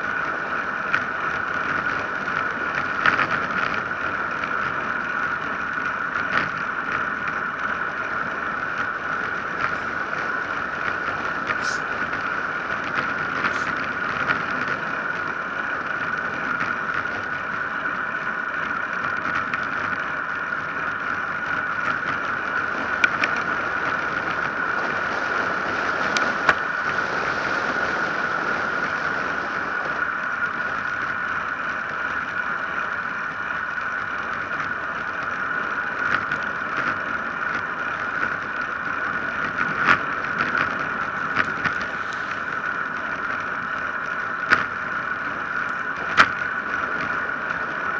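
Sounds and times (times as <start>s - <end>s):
tyre noise on asphalt: 0.0s - 47.9s.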